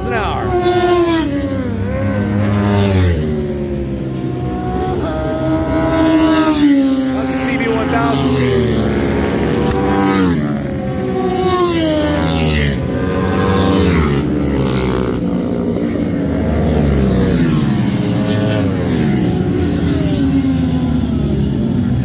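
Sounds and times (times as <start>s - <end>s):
motorcycles passing at full speed: 0.0s - 22.0s.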